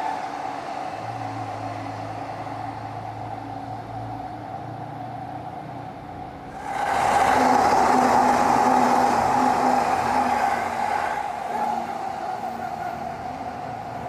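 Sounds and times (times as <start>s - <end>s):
wide rushing noise: 0.0s - 4.8s, 6.4s - 14.0s
traffic rumble: 0.0s - 14.0s.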